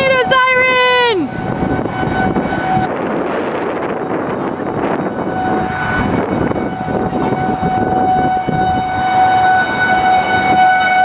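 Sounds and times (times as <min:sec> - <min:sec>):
highway traffic noise: 0:00.0 - 0:11.0
warning siren steady tone: 0:00.0 - 0:11.0.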